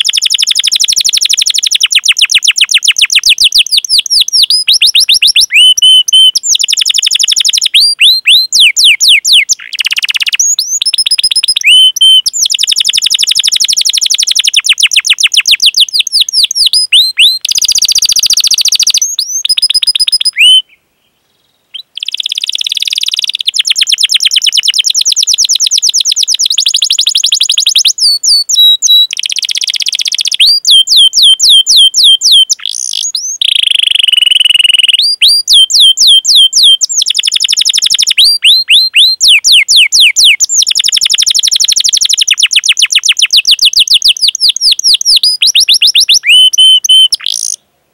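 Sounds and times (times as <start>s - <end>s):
canary singing: 0.0s - 20.8s, 21.7s - 47.6s
canary trills: 0.0s - 20.8s, 21.7s - 47.6s.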